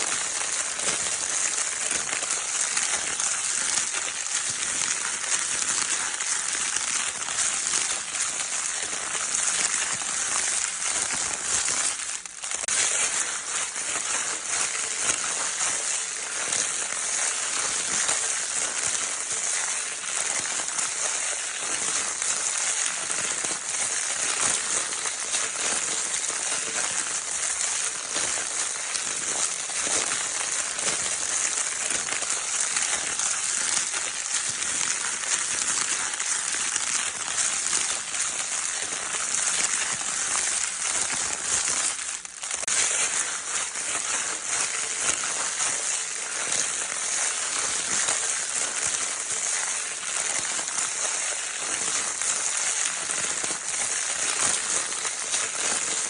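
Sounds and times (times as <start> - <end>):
crinkle paper toy crackling: 0.0 - 56.0.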